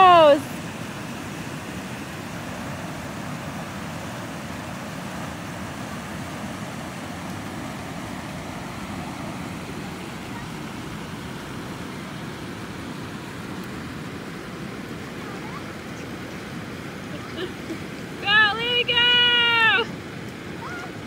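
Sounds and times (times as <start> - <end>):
river rushing over shallows: 0.0 - 21.0.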